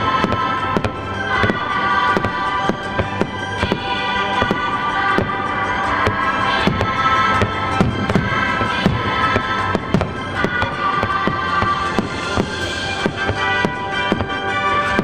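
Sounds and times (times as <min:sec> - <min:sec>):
fireworks bursting: 0:00.0 - 0:15.0
music with held notes: 0:00.0 - 0:15.0.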